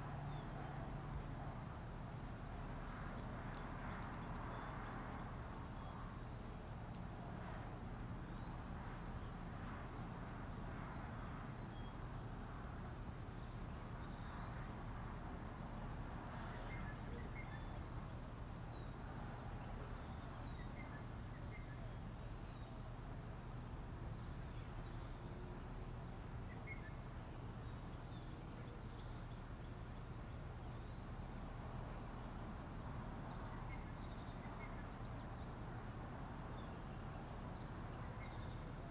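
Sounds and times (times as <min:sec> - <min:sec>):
low background noise: 0:00.0 - 0:38.9.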